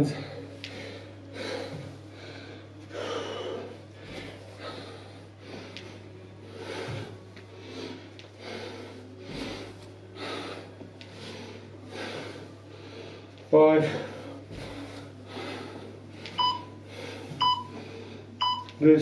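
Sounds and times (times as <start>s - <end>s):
man breathing hard: 0.0s - 18.4s.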